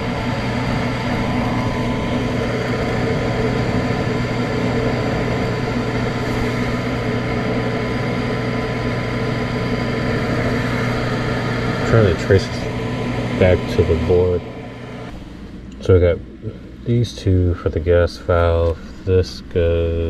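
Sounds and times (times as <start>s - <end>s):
furnace blower drone: 0.0s - 20.0s.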